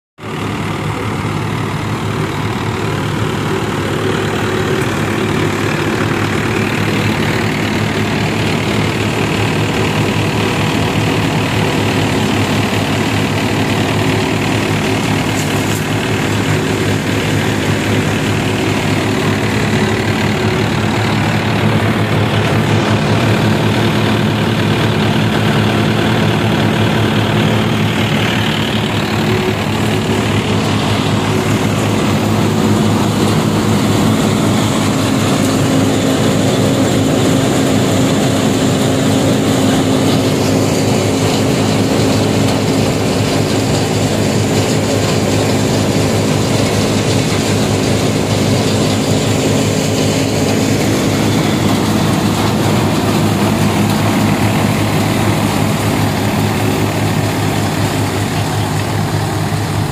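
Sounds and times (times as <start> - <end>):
thresher rushing noise: 0.2 - 59.9
tractor diesel engine running: 0.2 - 59.9.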